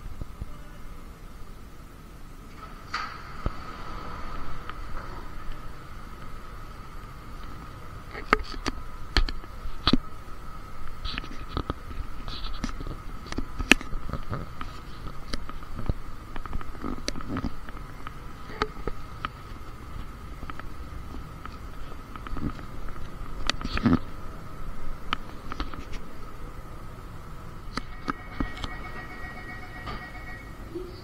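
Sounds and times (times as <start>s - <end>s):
constant whine: 0.0s - 31.0s.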